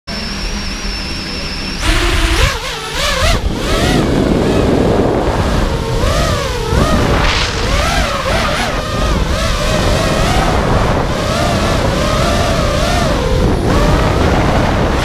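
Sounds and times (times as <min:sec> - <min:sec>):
quadcopter motors whining: 0:00.1 - 0:15.0
propeller wash rushing: 0:01.8 - 0:15.0.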